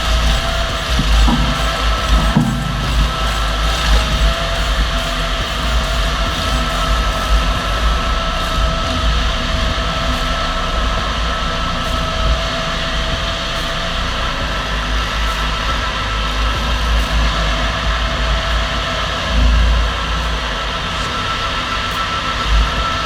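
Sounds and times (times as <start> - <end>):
heavy machinery engine rumbling: 0.0 - 23.0
machinery whine: 0.0 - 23.0.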